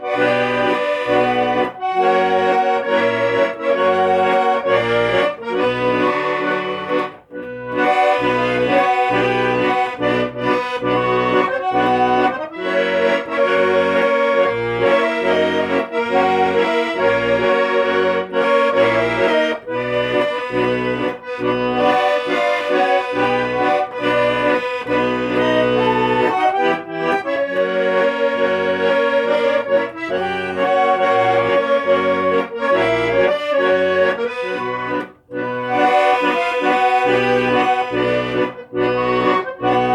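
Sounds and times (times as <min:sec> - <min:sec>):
accordion playing a tango: 0:00.0 - 0:39.9.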